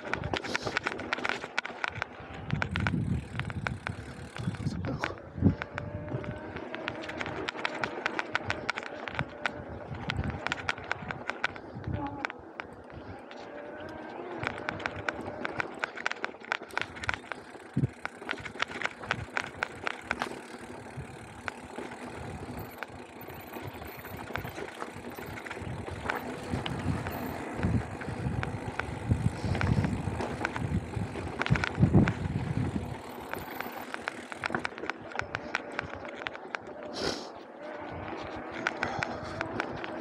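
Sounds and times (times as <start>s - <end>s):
bike clicking and rattling: 0.0s - 40.0s
tyres crunching on loose dirt: 0.0s - 40.0s.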